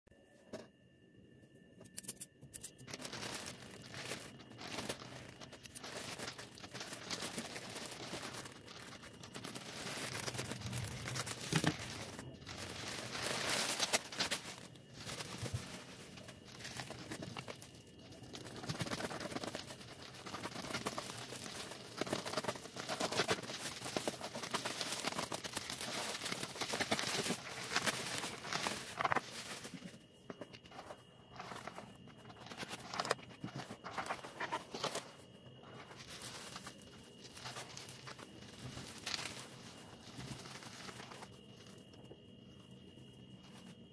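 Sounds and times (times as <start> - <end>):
plastic and bubble wrap crinkling: 2.0 - 43.9.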